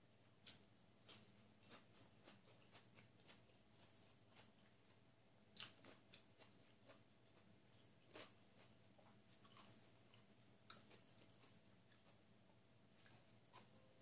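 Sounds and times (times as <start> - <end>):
person chewing food: 0.3 - 14.0.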